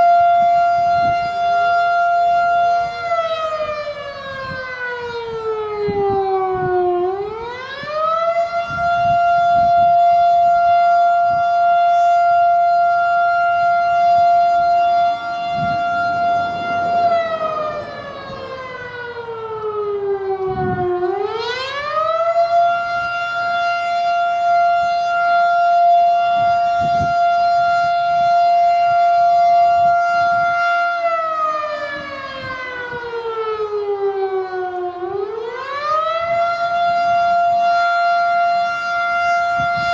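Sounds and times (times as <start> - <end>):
storm siren wailing: 0.0 - 39.9.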